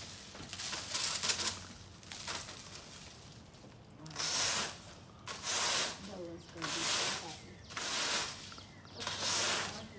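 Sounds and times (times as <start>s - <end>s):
rake scraping leaves on roof: 0.0s - 9.9s.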